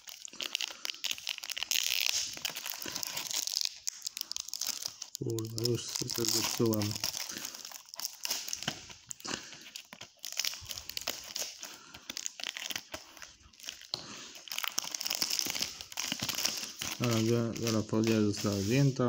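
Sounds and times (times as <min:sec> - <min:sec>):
plastic shrink-wrap crinkling and tearing: 0:00.0 - 0:19.0.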